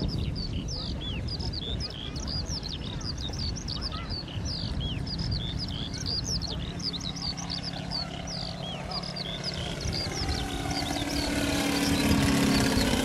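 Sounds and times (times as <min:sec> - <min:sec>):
flock of birds chirping: 0:00.0 - 0:13.0.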